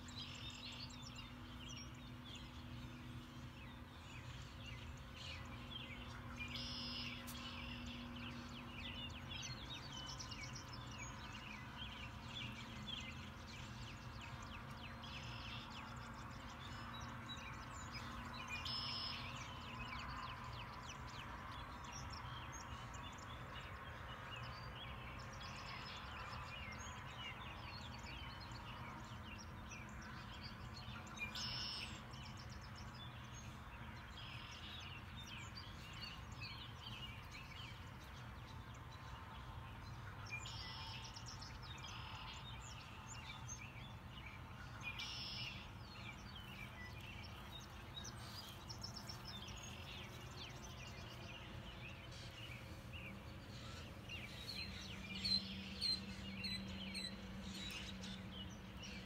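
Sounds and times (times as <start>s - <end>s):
wild birds calling and chirping: 0.0s - 59.0s.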